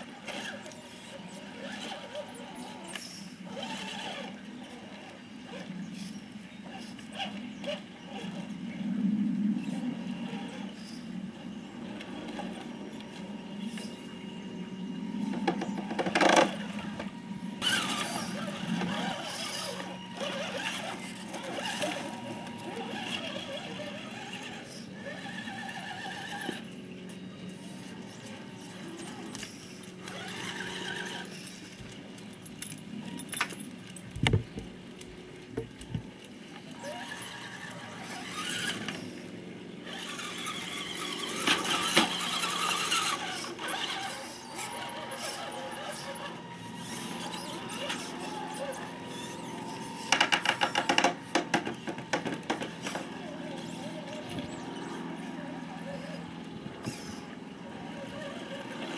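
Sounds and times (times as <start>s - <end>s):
toy car motor whining: 0.0s - 8.5s, 11.8s - 32.0s, 35.9s - 58.9s.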